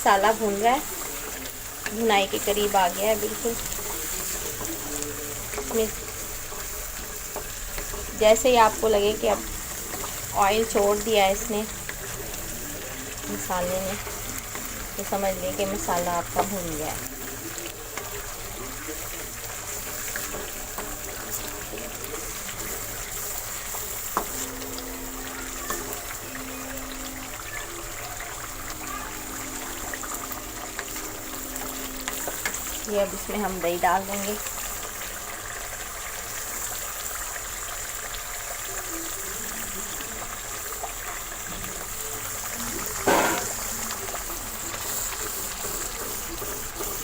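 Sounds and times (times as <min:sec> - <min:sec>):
masala sizzling in oil: 0:00.0 - 0:47.0.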